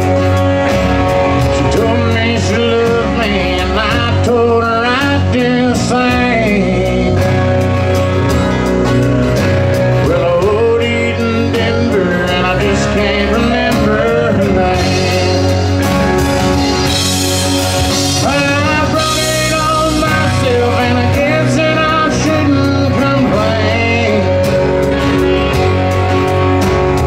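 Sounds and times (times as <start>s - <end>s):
acoustic guitar: 0.0s - 27.0s
bass guitar: 0.0s - 27.0s
drums: 0.0s - 27.0s
electric lead guitar bending notes: 0.0s - 27.0s.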